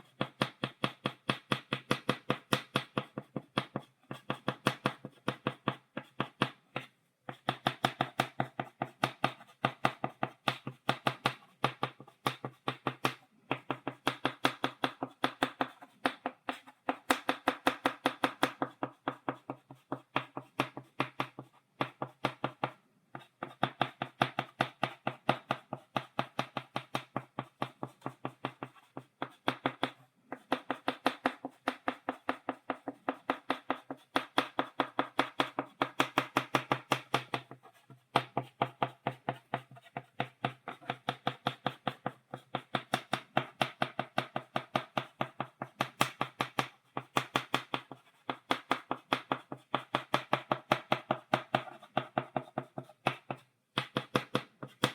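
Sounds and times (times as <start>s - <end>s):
chalk tapping on blackboard: 0.0s - 54.9s.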